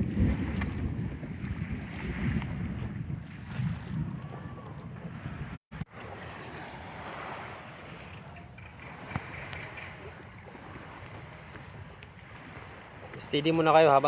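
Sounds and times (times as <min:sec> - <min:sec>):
lake waves: 0:00.0 - 0:14.0
wind buffeting microphone: 0:00.0 - 0:14.0.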